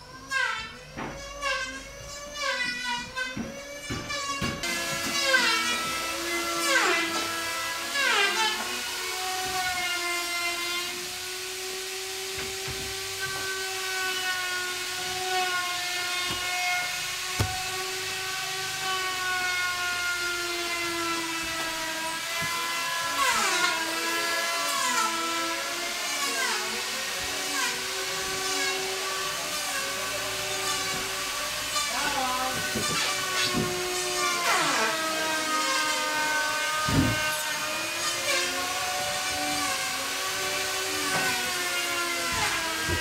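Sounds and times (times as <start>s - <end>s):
electric power tool whining: 0.0s - 43.0s.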